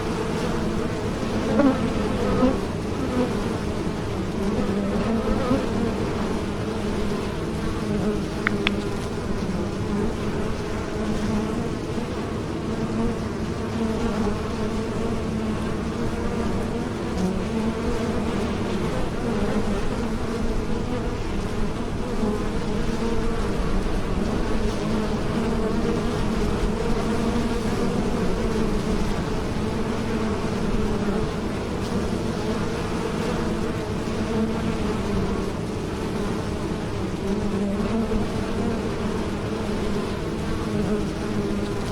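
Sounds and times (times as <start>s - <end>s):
bees buzzing: 0.0s - 41.9s.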